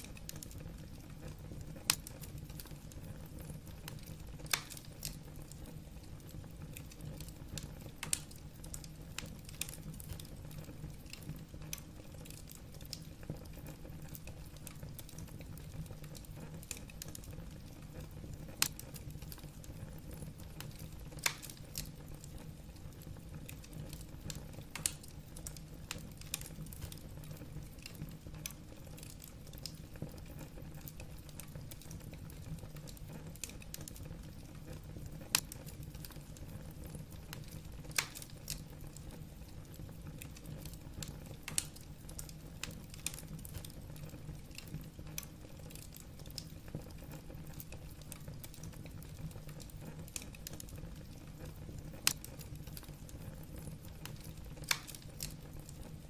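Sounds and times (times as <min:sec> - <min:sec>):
logs crackling and popping: 0:00.0 - 0:56.0
low rumble of fire: 0:00.0 - 0:56.0.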